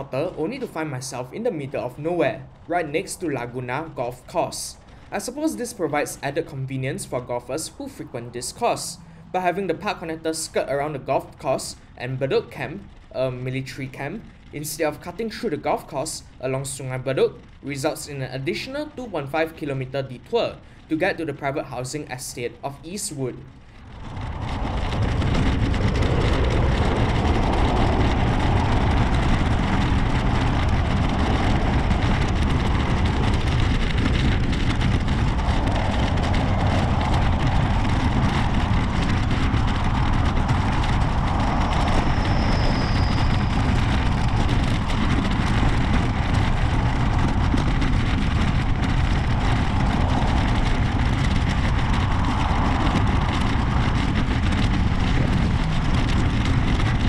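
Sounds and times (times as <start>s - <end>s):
bicycle tyres rolling: 0.0s - 57.0s
wind on microphone: 0.0s - 57.0s.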